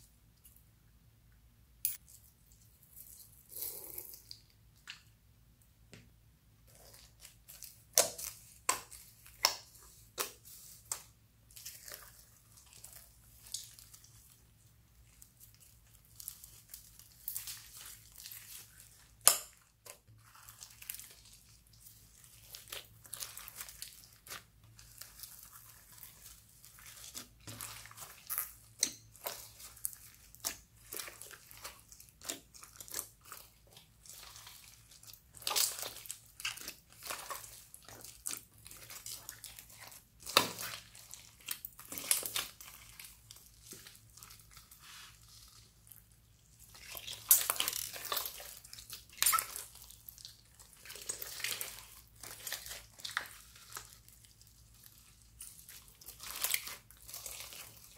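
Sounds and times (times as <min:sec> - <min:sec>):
slime squishing with crackles: 0:01.9 - 0:57.9.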